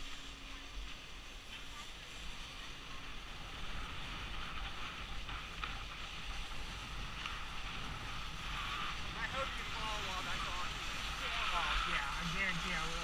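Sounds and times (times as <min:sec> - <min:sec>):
snowboard scraping icy snow: 0:01.6 - 0:13.0.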